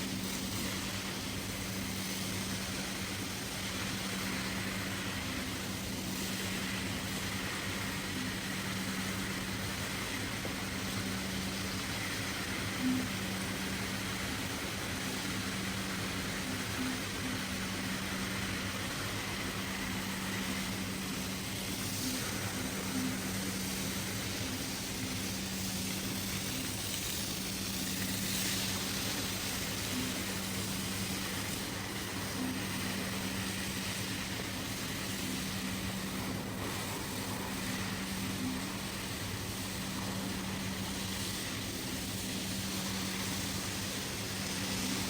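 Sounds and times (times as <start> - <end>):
machine hiss: 0.0 - 45.0
machine motor humming: 0.0 - 45.0.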